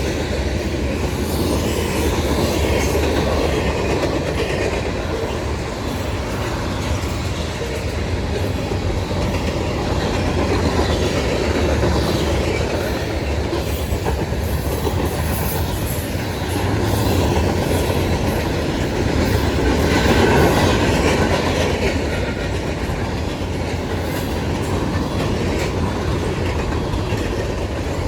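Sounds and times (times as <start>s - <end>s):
train wheels clattering over rail joints: 0.0s - 28.0s.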